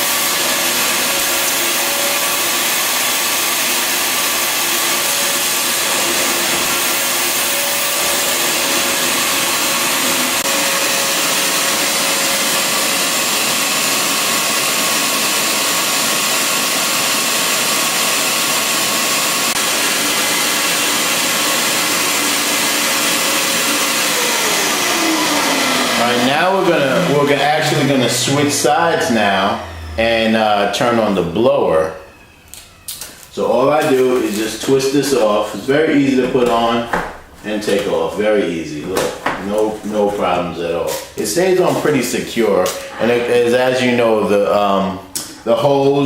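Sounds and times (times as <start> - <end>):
shop vacuum running: 0.0 - 46.0.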